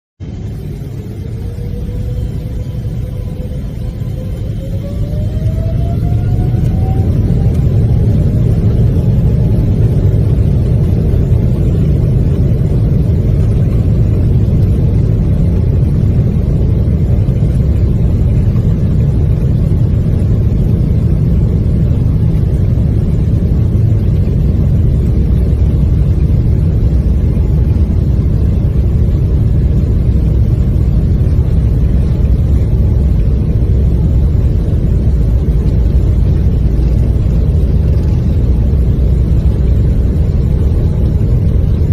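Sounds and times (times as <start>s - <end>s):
airliner accelerating on takeoff: 0.2s - 41.9s.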